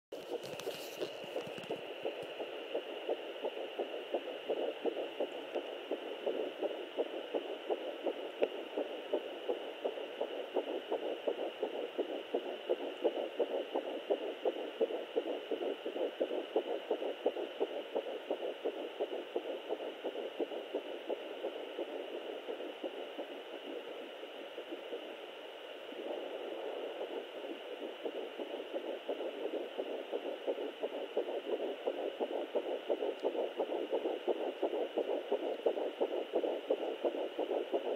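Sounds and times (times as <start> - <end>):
fetal heartbeat on doppler: 0.2 - 37.9.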